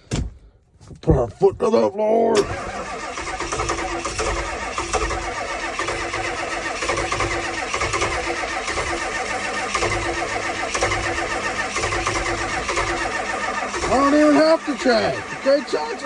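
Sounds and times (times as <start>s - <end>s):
diesel engine cold starting: 1.1s - 16.0s.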